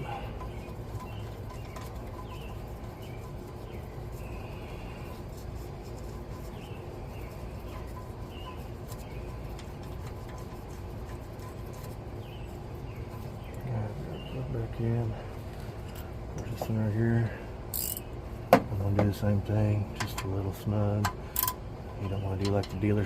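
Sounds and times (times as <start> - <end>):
birds chirping: 0.0 - 23.0
low background rumble: 0.0 - 23.0.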